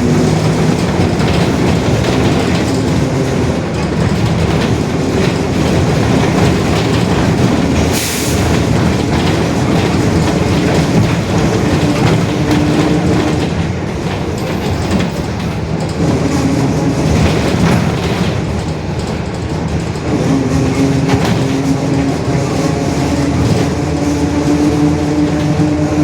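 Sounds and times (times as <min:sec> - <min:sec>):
bus differential droning: 0:00.0 - 0:26.0
moving bus rumble and rattle: 0:00.0 - 0:26.0.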